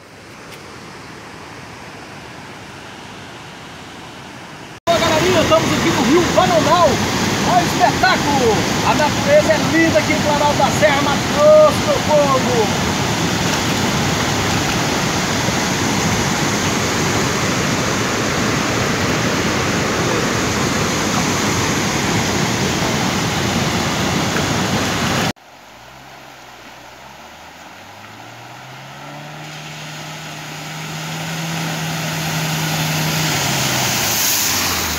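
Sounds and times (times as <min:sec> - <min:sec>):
waterfall roaring: 0:00.0 - 0:34.9
car engine: 0:04.8 - 0:34.9
car splashing through water: 0:04.8 - 0:34.9.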